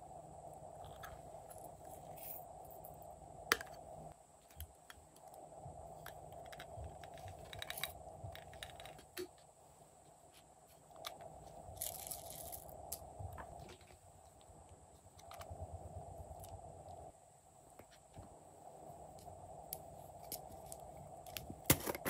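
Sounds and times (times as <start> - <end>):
faint steady hum: 0.0 - 22.0
rustling hiss: 0.0 - 22.0.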